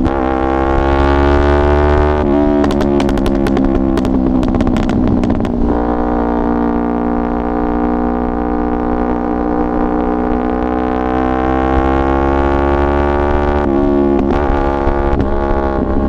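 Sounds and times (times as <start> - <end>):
motorcycle engine crackling and popping: 0.0 - 16.0.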